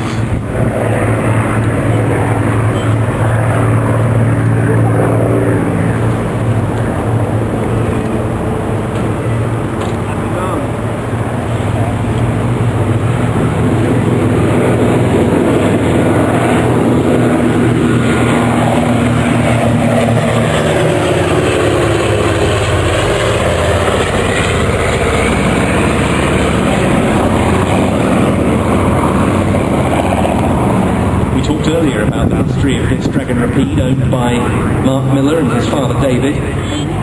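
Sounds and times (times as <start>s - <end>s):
propeller planes droning: 0.0s - 37.0s.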